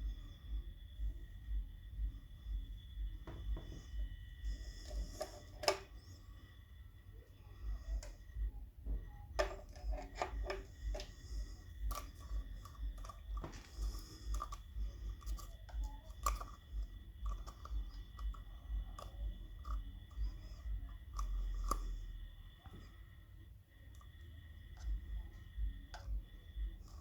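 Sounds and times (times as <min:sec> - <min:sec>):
low thumping rumble: 0:00.0 - 0:05.2, 0:05.8 - 0:23.0, 0:24.7 - 0:27.0.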